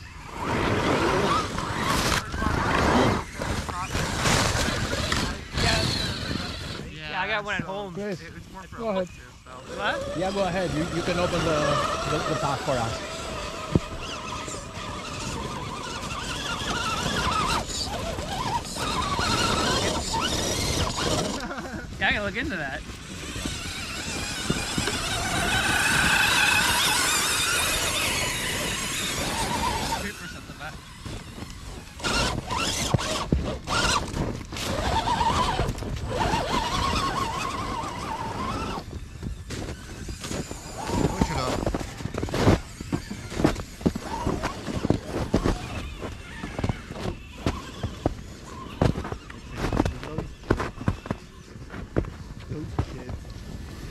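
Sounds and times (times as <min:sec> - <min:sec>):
electric motors whining: 0:00.0 - 0:53.9
loud crunching and rustling: 0:00.1 - 0:06.9, 0:09.7 - 0:53.9.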